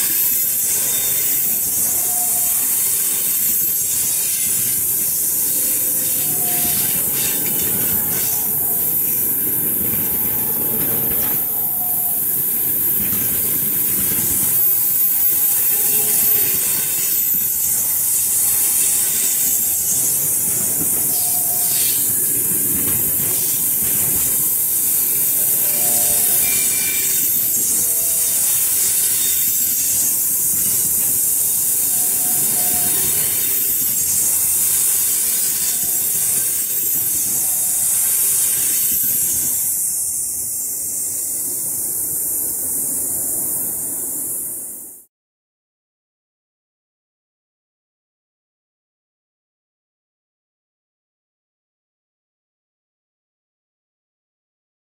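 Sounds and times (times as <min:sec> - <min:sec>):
train wheels rumbling on rails: 0:00.0 - 0:45.0
high hiss: 0:00.0 - 0:45.1.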